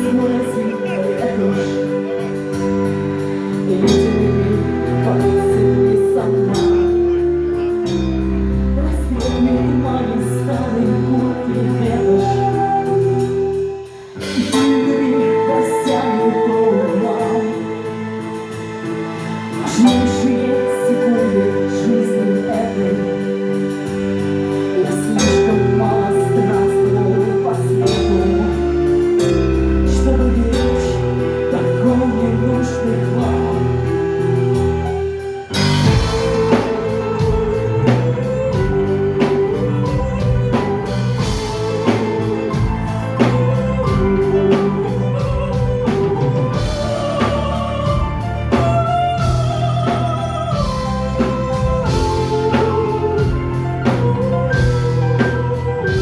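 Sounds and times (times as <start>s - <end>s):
drums: 0.0s - 56.0s
song with singing and instruments: 0.0s - 56.0s.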